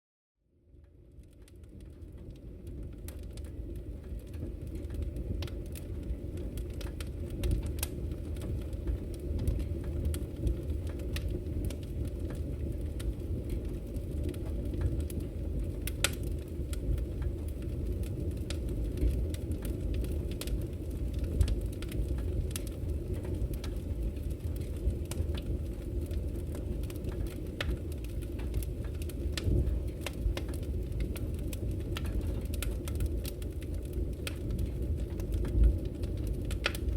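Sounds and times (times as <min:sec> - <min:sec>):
wood fire crackling: 0:00.6 - 0:36.9.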